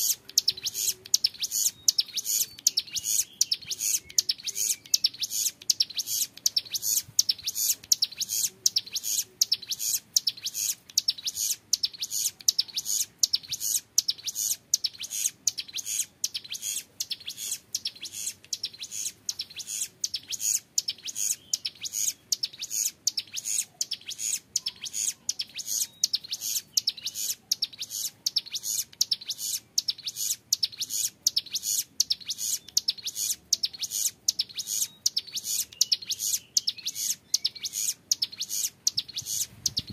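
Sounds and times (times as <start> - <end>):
bird singing fast trill: 0.0 - 39.9.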